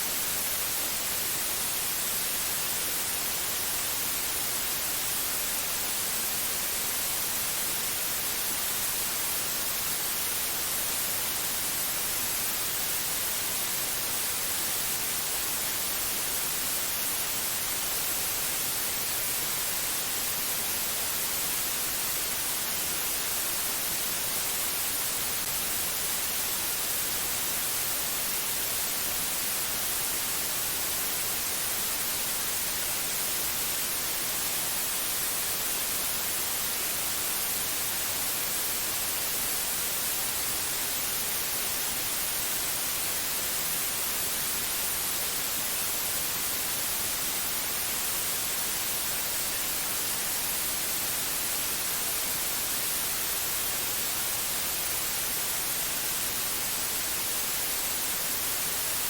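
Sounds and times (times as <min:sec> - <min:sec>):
electronic white noise hiss: 0:00.0 - 0:59.0.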